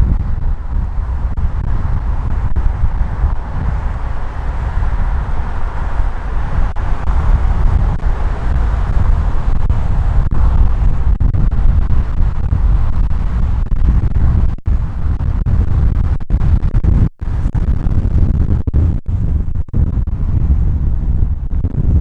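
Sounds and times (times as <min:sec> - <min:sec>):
car road and wind noise: 0:00.0 - 0:22.0.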